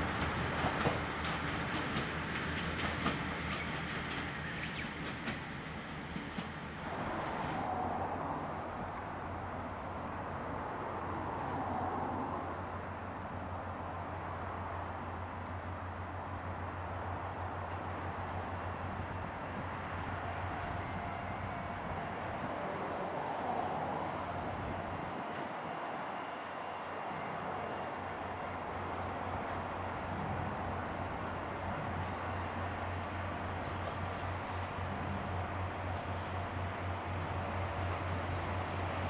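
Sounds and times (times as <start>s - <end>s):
diesel railcar engine hum: 0.0s - 39.0s
rail noise: 0.0s - 39.0s.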